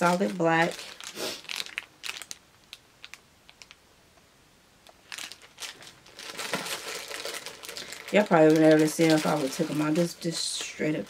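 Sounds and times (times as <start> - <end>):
plastic bags crinkling: 0.0 - 3.8, 5.0 - 11.0.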